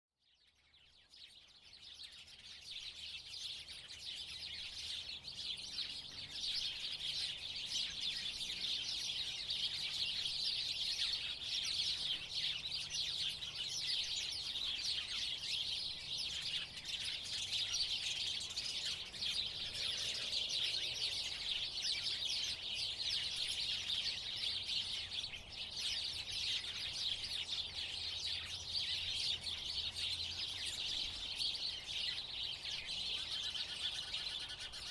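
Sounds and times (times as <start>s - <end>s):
sparrows chirping: 0.3s - 34.9s.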